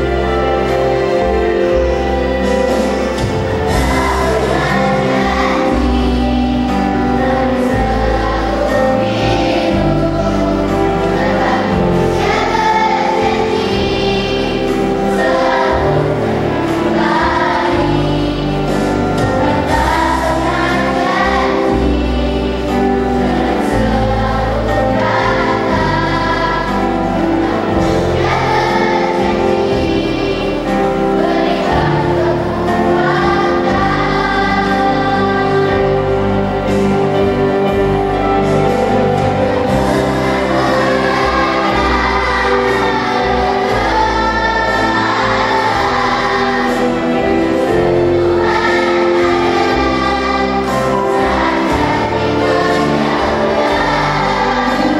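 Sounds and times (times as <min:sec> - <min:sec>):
children's choir singing: 0:00.0 - 0:54.9
instrumental accompaniment: 0:00.0 - 0:54.9.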